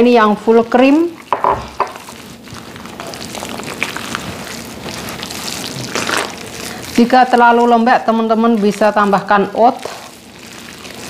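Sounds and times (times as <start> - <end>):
hand kneading ground meat squelching: 0.0 - 11.0.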